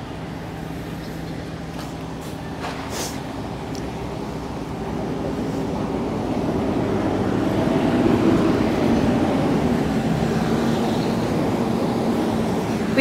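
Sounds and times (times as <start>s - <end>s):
street traffic: 0.0s - 13.0s
vehicle engine droning: 0.0s - 13.0s.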